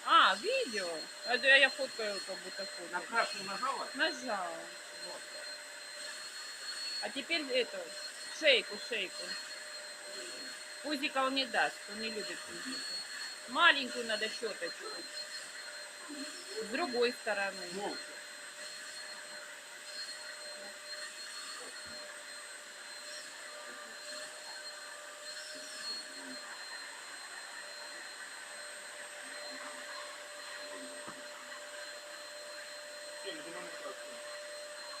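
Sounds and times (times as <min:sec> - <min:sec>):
vacuum cleaner whining: 0:00.0 - 0:35.0.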